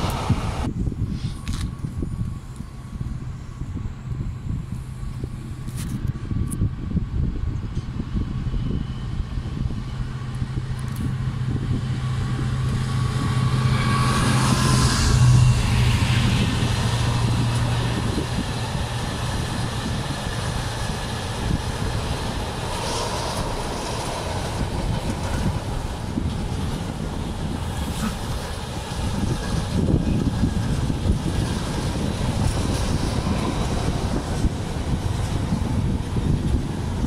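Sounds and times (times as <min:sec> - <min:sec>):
locomotive engine drone: 0:00.0 - 0:37.0
train wagons rumbling on rails: 0:00.0 - 0:37.0.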